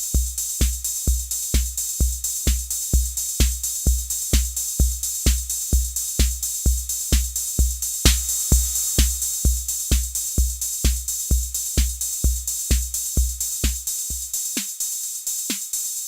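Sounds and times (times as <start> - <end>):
drum machine bass drum hits: 0.0 - 15.9.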